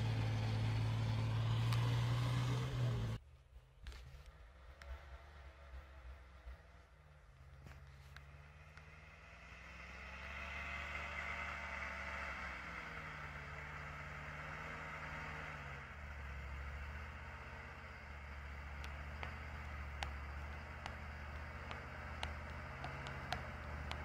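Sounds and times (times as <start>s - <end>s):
truck engine droning under load: 0.0s - 3.2s, 5.0s - 24.0s.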